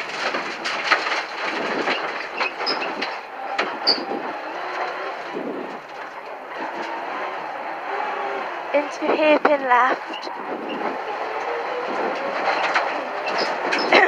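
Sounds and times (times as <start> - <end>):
stones rattling against bodywork: 0.0 - 6.9, 9.2 - 14.0
turbocharged car engine: 0.0 - 14.0
tyres on loose gravel: 0.0 - 14.0.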